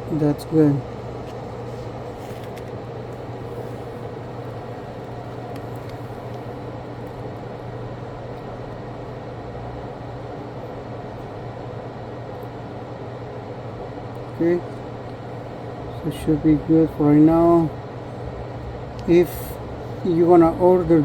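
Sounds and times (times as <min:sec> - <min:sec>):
fan hum: 0:00.0 - 0:21.0.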